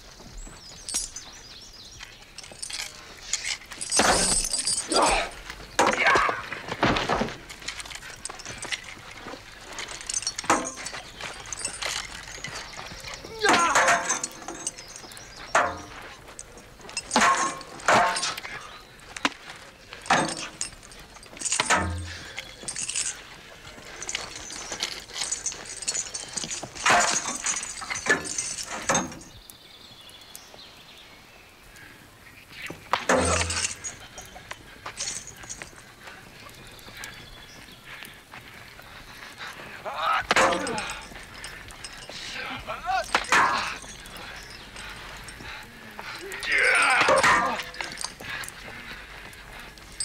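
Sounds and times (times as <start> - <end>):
scuffling: 0.0 - 29.4, 32.6 - 50.0
metallic jingling: 0.0 - 29.5, 32.6 - 50.0
metallic clinks and knocks: 0.4 - 29.5, 32.6 - 38.2, 40.2 - 50.0.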